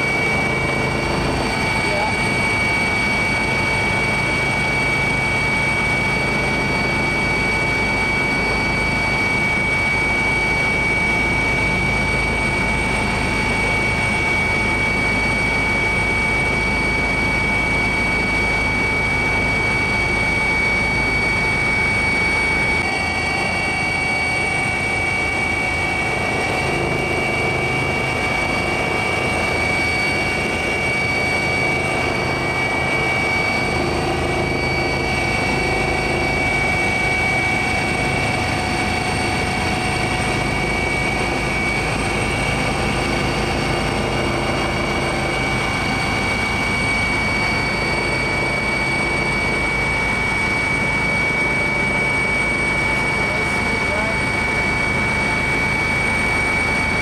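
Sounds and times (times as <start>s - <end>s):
aircraft engine drone: 0.0s - 57.0s
high engine whine: 0.0s - 57.0s.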